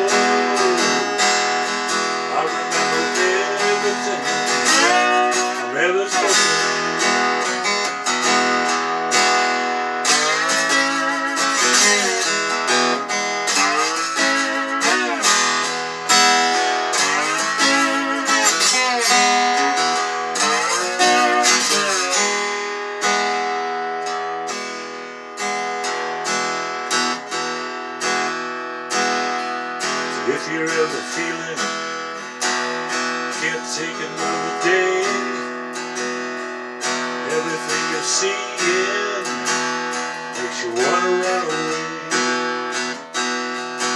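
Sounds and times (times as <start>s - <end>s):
acoustic guitar strumming: 0.0s - 43.9s
lead guitar with bending notes: 0.0s - 43.9s.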